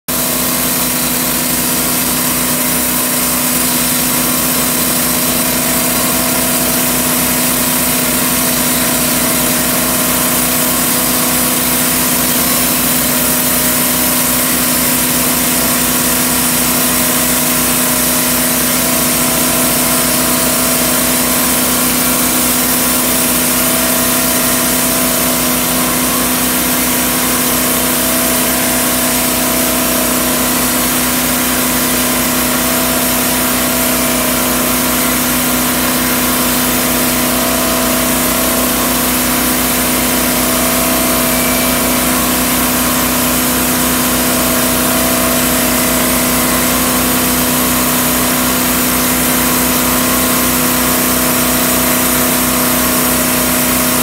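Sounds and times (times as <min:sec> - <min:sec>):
saw cutting log with high hiss: 0:00.1 - 0:54.0
sawmill engine running: 0:00.1 - 0:54.0.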